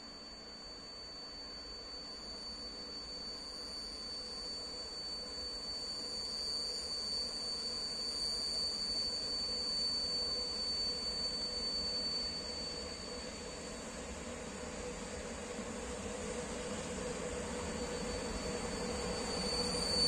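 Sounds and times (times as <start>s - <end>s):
steady high-pitched whine: 0.0s - 20.0s.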